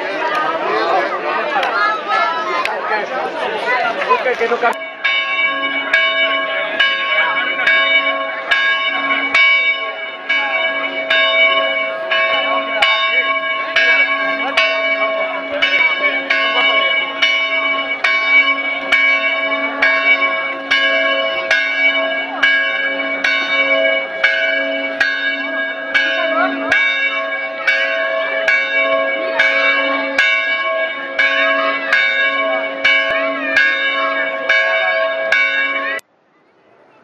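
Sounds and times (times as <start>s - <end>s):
church bells pealing: 3.6s - 36.0s.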